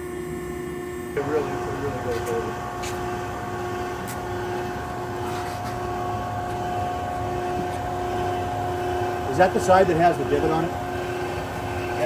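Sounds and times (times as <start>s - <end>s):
hydraulic pump droning and whining: 0.0s - 12.0s.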